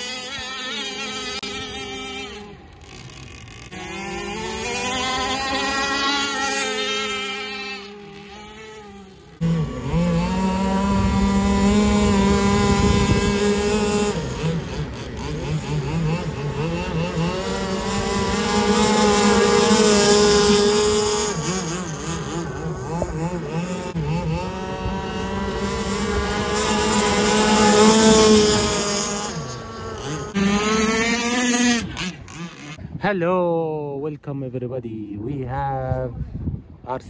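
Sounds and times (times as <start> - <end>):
high-revving boat engines: 0.0 - 32.9.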